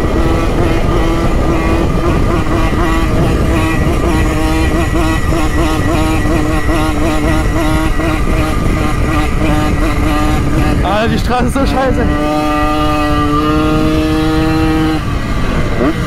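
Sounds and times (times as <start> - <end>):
low rumble: 0.0 - 16.0
two-stroke moped engine running: 0.0 - 16.0.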